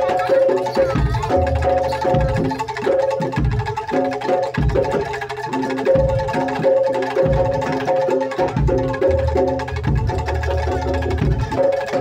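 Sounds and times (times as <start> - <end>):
tuned percussion notes: 0.0 - 12.0.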